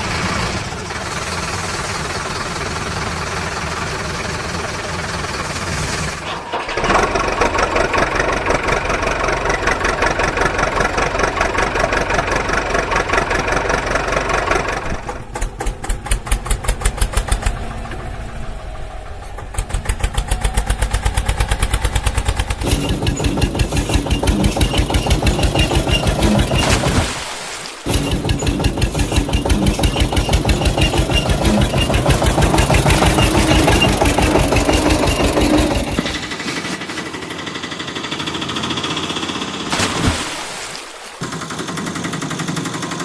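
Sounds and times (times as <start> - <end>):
engine chugging: 0.0 - 27.0, 27.9 - 39.8, 41.2 - 43.0.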